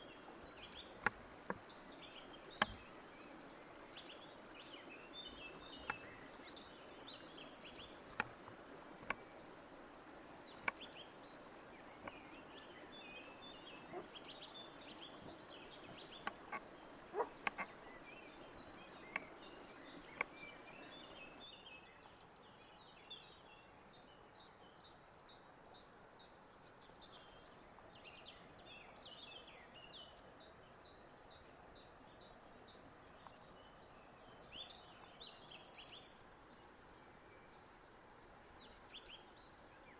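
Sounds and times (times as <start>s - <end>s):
faint steady background noise: 0.0s - 39.9s
small birds chirping: 0.0s - 39.9s.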